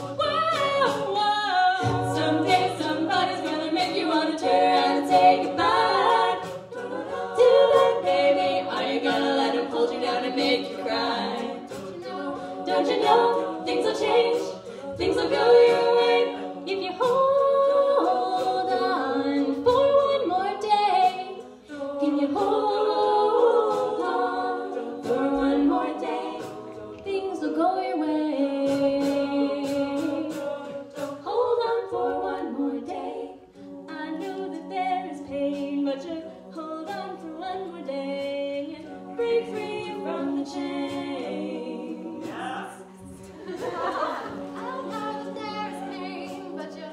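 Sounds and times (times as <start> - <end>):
group singing in harmony: 0.0 - 46.9.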